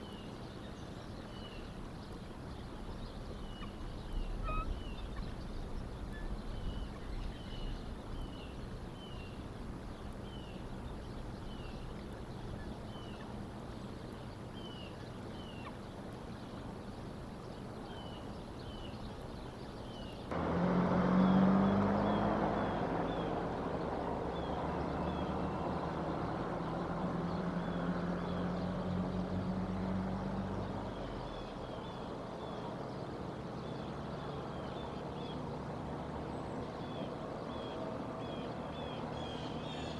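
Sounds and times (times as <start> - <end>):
bird chirping: 0.0 - 35.5, 36.2 - 39.9
vehicle engine hum: 0.0 - 39.9.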